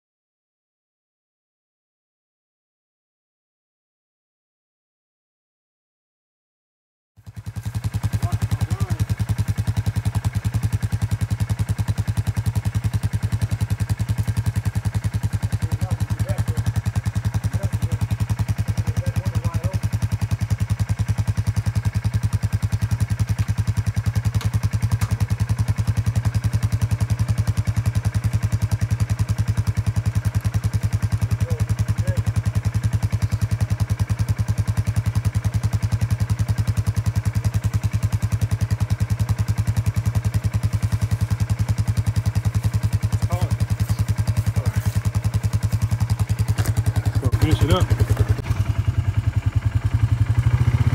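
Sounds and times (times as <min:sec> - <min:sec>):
off-road vehicle engine idling: 0:07.2 - 0:50.9.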